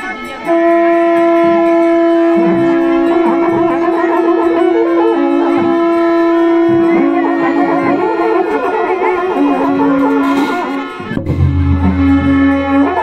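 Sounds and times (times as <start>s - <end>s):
reedy pipe melody: 0.0s - 13.0s
wind instrument holding steady note: 0.0s - 13.0s.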